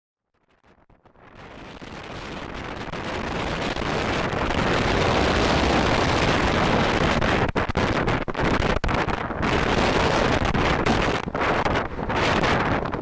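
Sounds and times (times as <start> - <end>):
gale wind on microphone: 0.7 - 13.0.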